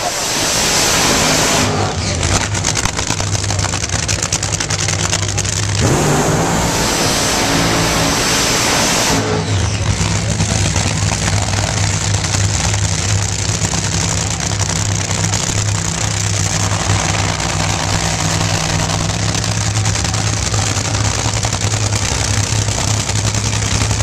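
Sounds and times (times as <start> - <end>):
crackling exhaust: 0.0 - 24.0
racing car engines revving: 0.0 - 24.0.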